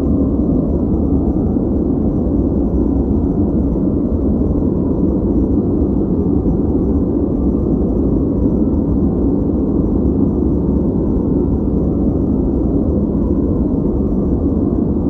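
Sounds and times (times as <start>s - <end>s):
deep rumbling brown noise: 0.0s - 15.0s.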